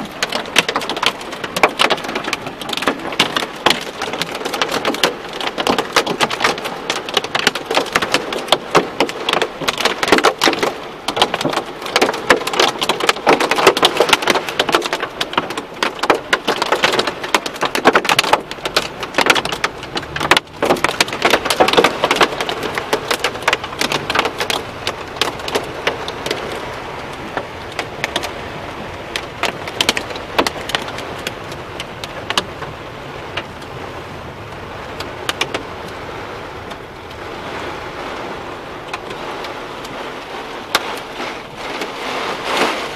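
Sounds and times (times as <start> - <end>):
hail impacts: 0.0 - 42.9
heavy rain: 0.0 - 42.9.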